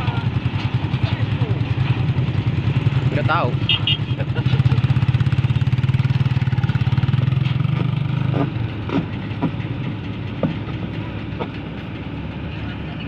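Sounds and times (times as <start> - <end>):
heavy diesel engine throbbing: 0.0 - 13.0.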